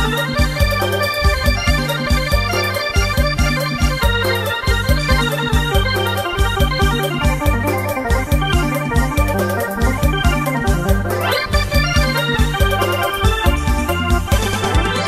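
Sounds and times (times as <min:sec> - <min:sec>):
background music with steady beat: 0:00.0 - 0:15.0
held keyboard chords: 0:00.0 - 0:15.0.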